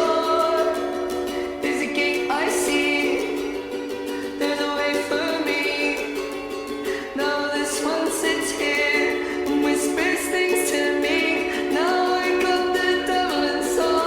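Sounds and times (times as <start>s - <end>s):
person singing: 0.0s - 14.0s
plucked strings: 0.0s - 14.0s.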